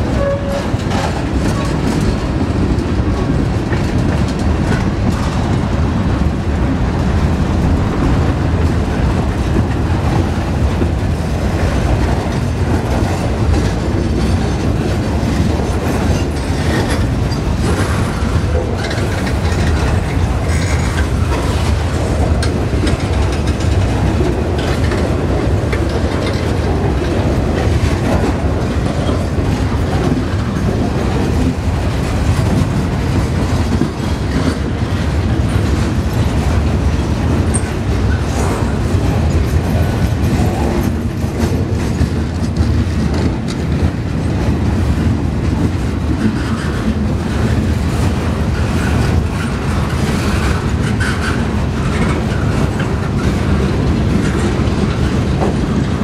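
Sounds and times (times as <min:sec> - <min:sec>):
clickety-clack over rail joints: 0:00.0 - 0:56.0
train wheels rumbling on rails: 0:00.0 - 0:56.0.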